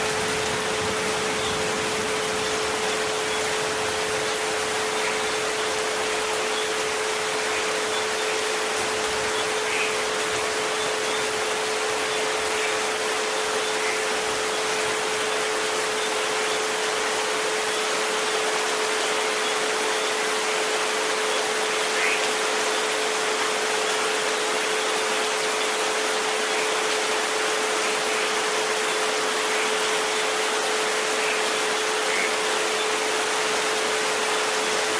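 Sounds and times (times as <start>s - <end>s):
continuous pure tone: 0.0s - 34.9s
rain hiss: 0.0s - 34.9s.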